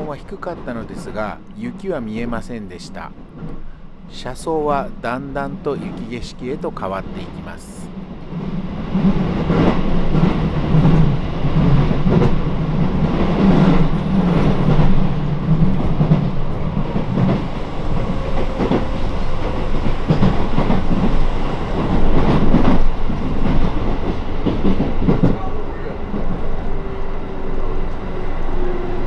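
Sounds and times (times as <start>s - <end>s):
train carriage rumble: 0.0s - 29.0s
train passing alongside: 0.0s - 29.0s.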